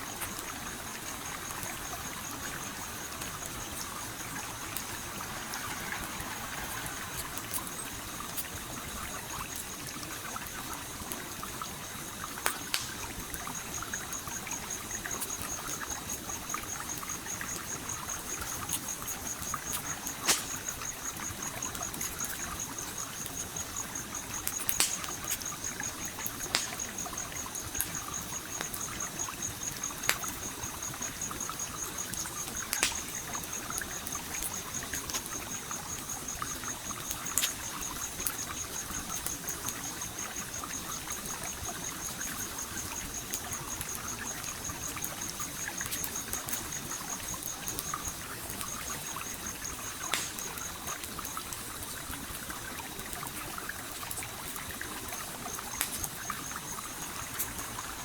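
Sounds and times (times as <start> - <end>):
stream water trickling: 0.0 - 58.0
campfire crackling and popping: 0.1 - 58.0.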